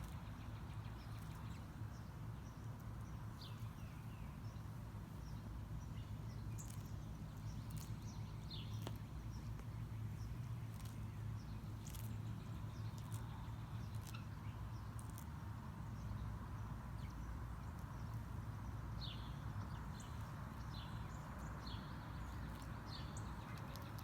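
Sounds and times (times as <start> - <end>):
low outdoor hum: 0.0 - 24.0
tortoise chewing plants: 0.0 - 24.0.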